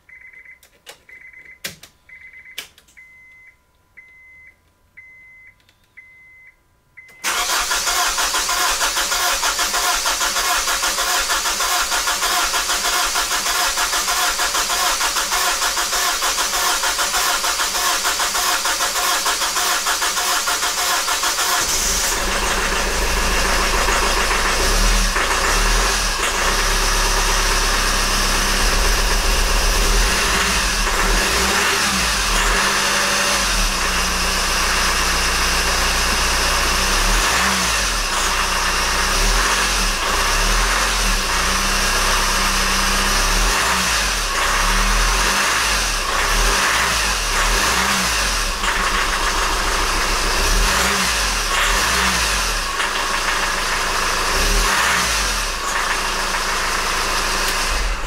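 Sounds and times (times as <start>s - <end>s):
diesel engine cranking: 7.2s - 41.6s, 43.4s - 58.0s.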